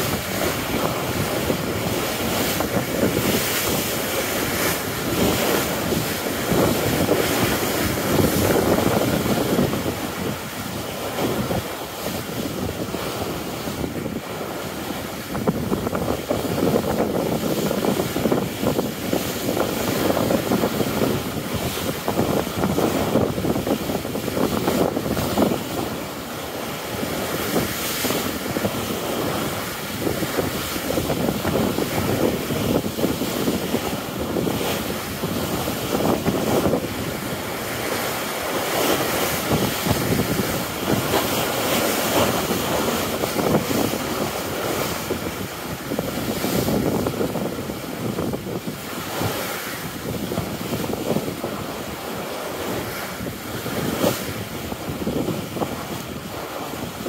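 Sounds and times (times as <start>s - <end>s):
water rushing past hull: 0.0s - 57.0s
wind buffeting microphone: 0.0s - 57.0s.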